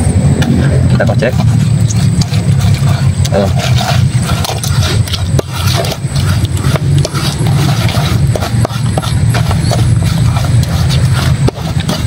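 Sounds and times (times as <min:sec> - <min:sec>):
steady low rumble: 0:00.0 - 0:12.0
knife scraping a steel bowl: 0:00.4 - 0:12.0.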